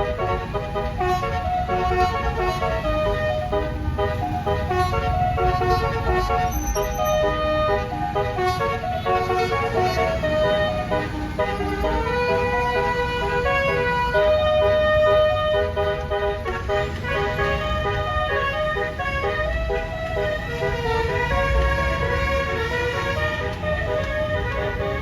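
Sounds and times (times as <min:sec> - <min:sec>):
multi-note air horn tune: 0:00.0 - 0:25.0.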